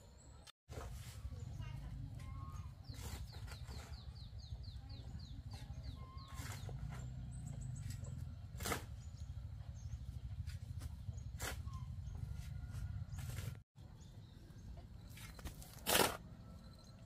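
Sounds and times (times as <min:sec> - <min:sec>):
bird chirping: 0:01.3 - 0:15.8.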